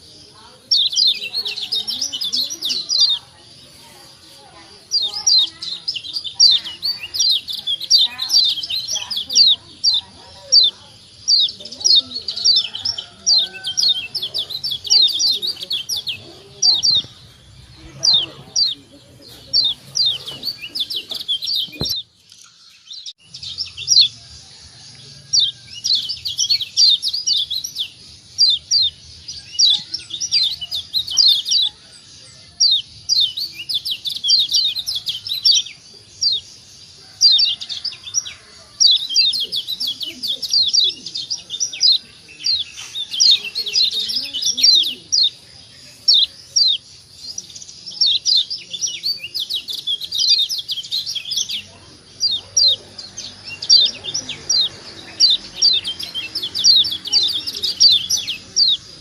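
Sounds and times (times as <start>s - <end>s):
bird chirping song: 0.0s - 59.0s.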